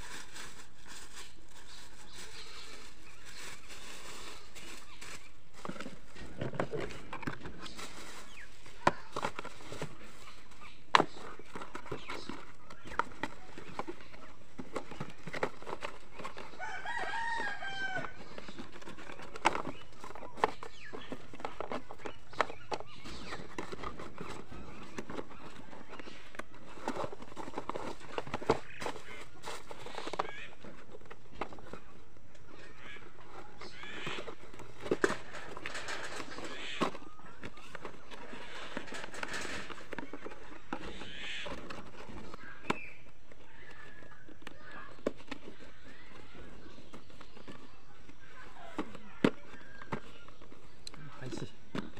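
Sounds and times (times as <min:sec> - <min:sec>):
birds calling: 0:00.0 - 0:51.9
card and plastic rustling: 0:00.0 - 0:51.9.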